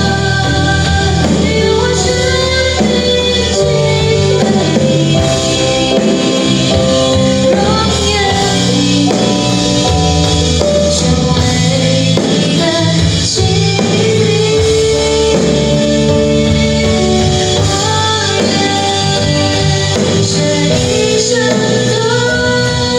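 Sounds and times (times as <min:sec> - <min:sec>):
drums: 0:00.0 - 0:22.9
song over loudspeakers: 0:00.0 - 0:22.9.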